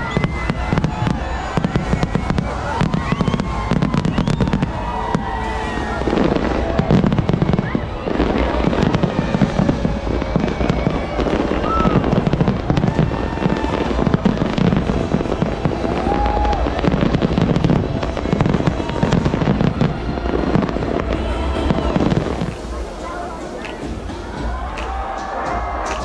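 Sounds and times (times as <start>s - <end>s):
firework whistles: 0.0s - 26.0s
fireworks booming and crackling: 0.0s - 26.0s.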